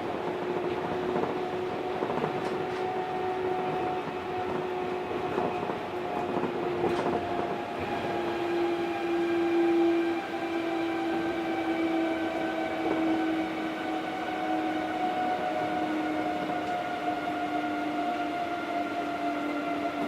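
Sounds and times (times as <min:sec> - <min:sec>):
monorail car rumbling on track: 0:00.0 - 0:20.0.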